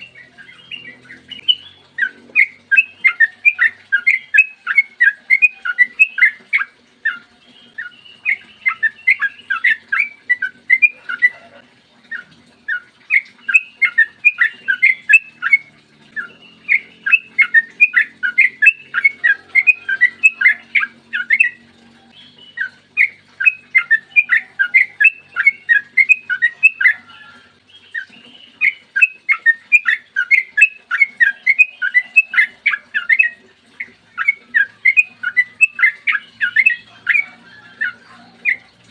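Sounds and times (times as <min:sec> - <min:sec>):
bird singing rapid whistled notes: 0:00.0 - 0:11.5, 0:12.1 - 0:38.8.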